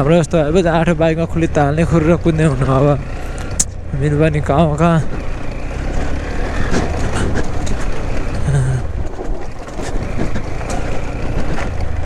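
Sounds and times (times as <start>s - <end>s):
knocks and rattles from motorcycle: 0.0s - 12.0s
motorcycle engine running: 0.0s - 12.0s.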